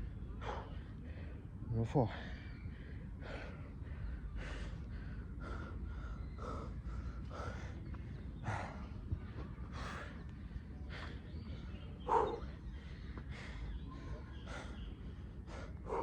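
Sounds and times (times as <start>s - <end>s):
man breathing hard: 0.3s - 9.0s, 9.7s - 16.0s.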